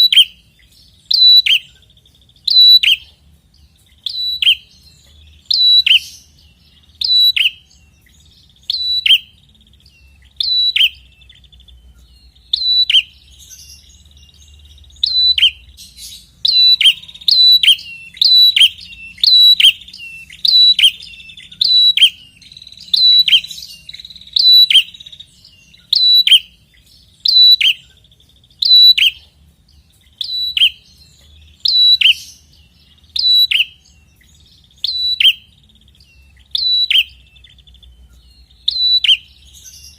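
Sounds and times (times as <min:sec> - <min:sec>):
buzzy bird trill: 0:00.0 - 0:39.9.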